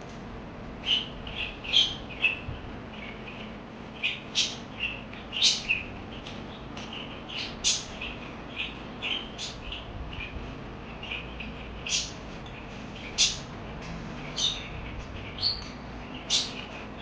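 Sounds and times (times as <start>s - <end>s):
parakeets chirping: 0.8s - 13.5s, 14.2s - 17.0s.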